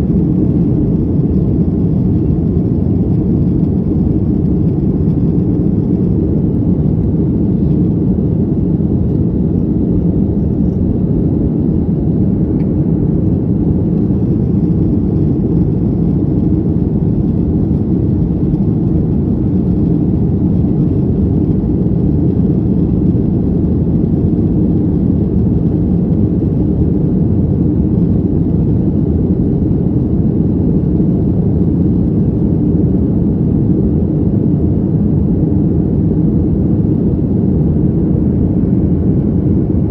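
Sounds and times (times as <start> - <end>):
airplane engines rumbling in cabin: 0.0 - 39.9.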